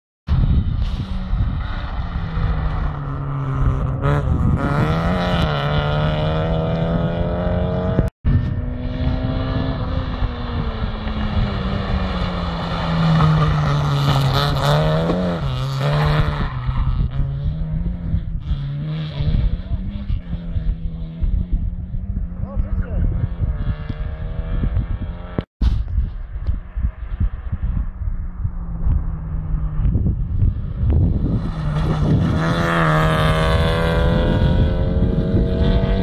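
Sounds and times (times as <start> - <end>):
rally car engine revving: 0.3 - 25.5, 28.4 - 36.0.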